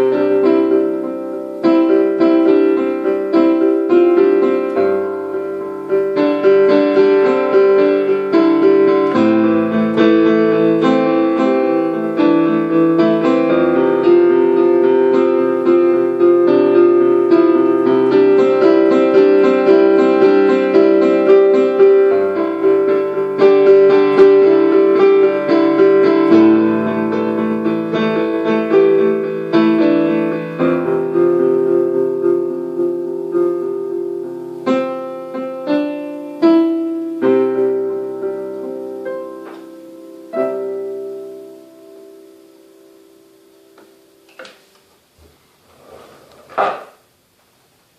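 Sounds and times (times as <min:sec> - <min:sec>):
solo piano: 0:00.0 - 0:47.9.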